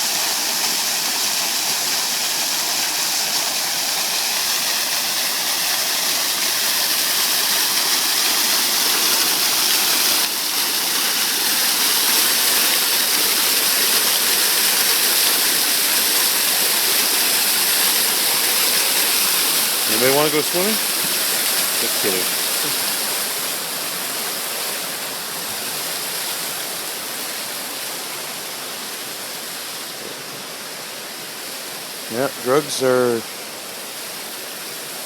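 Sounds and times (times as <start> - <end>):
fountain water splashing: 0.0 - 35.0.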